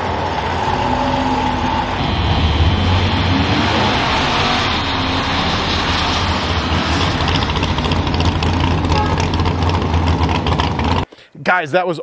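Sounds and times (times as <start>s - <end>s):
car engine at full throttle: 0.0s - 11.0s.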